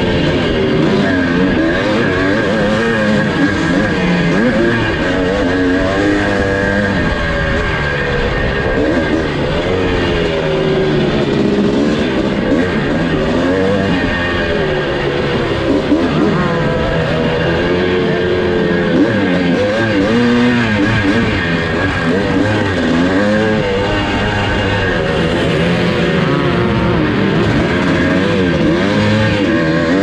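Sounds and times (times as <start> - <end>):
motocross engine revving: 0.0 - 30.0.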